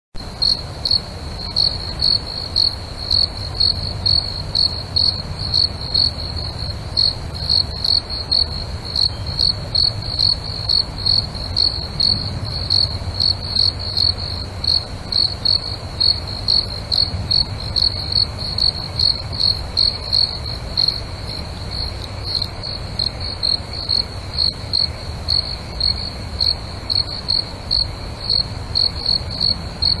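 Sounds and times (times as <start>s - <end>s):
cricket chirping: 0.2s - 30.0s.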